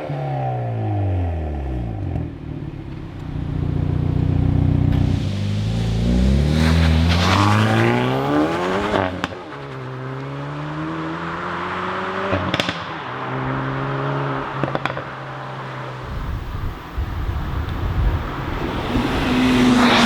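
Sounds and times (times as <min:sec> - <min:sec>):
car engine revving: 0:00.9 - 0:20.0.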